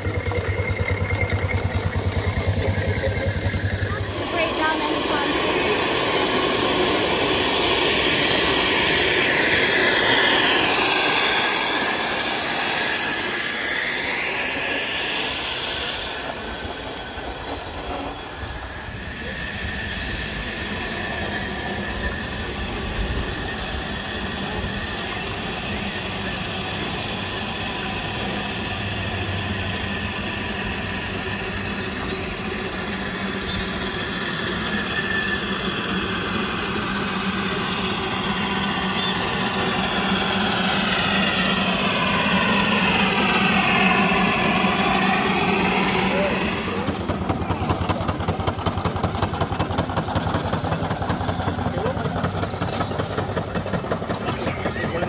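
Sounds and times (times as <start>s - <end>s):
steam venting hiss: 0.0s - 54.6s
small steam vehicle running: 0.0s - 55.0s.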